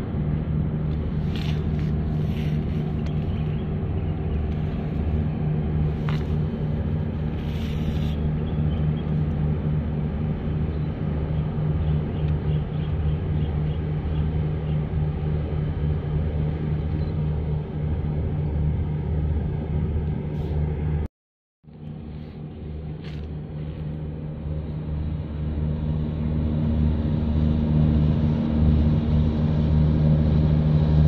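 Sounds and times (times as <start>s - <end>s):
tanker engine drone: 0.0s - 21.1s, 21.7s - 31.0s.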